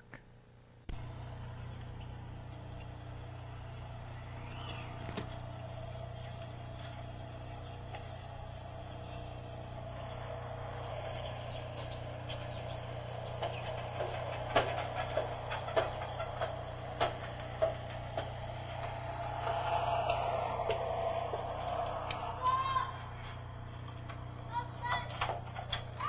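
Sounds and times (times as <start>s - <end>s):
low hum and hiss: 0.0s - 26.0s.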